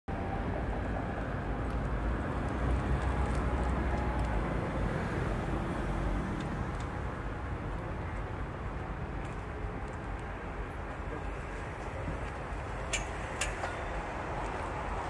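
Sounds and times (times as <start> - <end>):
low street rumble: 0.1 - 15.0.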